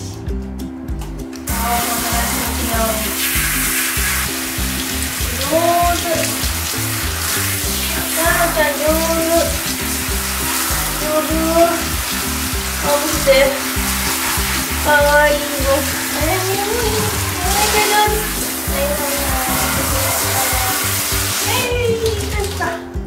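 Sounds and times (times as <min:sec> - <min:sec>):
shower head spraying water: 0:01.4 - 0:22.9.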